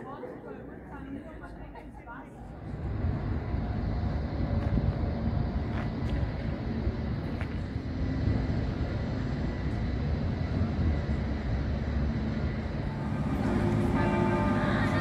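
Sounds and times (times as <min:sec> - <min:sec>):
bus engine and road noise: 0:00.8 - 0:15.0.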